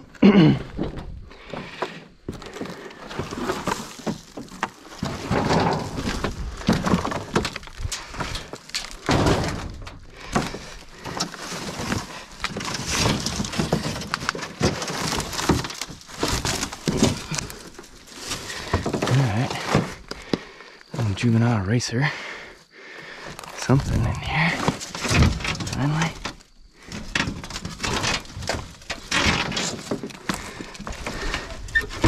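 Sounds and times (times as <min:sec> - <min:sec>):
metal and wood clattering: 0:00.0 - 0:21.4, 0:22.3 - 0:32.0.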